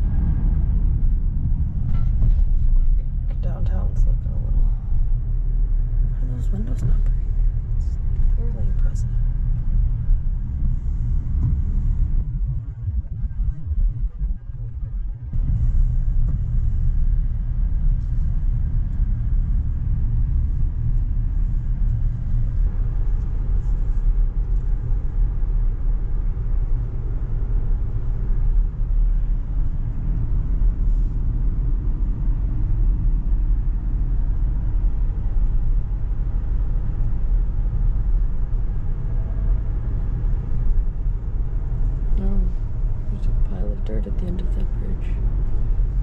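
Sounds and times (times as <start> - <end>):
car road rumble: 0.0 - 46.0.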